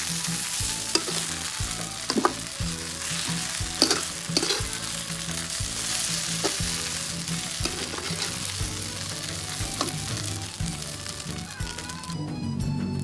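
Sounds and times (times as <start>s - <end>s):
spatula scraping a pan: 0.0s - 11.2s
food sizzling in hot oil: 0.0s - 12.2s.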